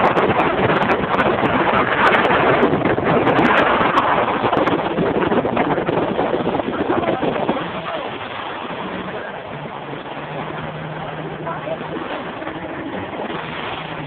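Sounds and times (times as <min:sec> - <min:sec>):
water noise: 0:00.0 - 0:14.0
wind buffeting microphone: 0:00.0 - 0:14.0.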